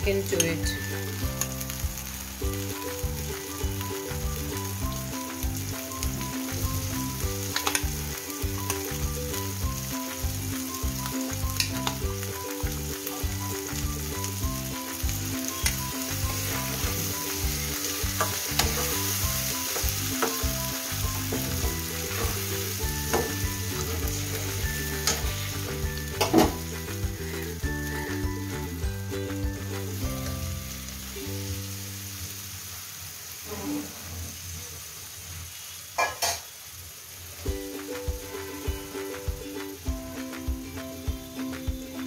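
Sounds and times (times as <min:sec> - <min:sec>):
food sizzling in hot oil: 0:00.0 - 0:42.0.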